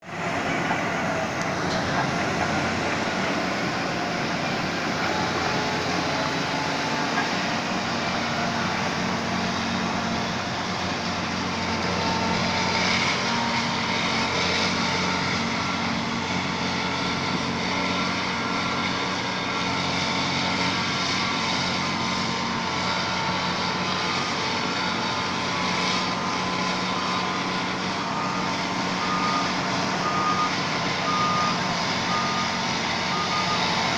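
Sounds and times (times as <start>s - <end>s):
bulldozer diesel engine drone: 0.0s - 33.9s.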